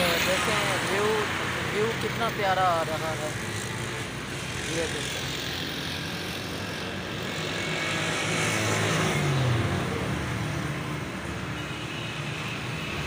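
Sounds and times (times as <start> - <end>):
motorcycle passing: 0.0 - 11.2
roadside traffic: 0.0 - 13.0.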